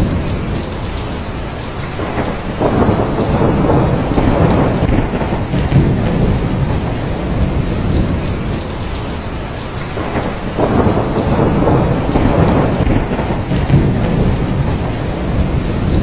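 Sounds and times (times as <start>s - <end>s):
heavy rain: 0.0s - 16.0s
rolling thunder: 0.0s - 16.0s.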